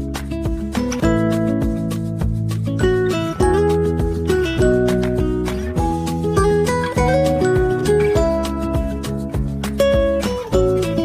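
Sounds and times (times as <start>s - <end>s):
background music with plucked guitar: 0.0s - 11.0s.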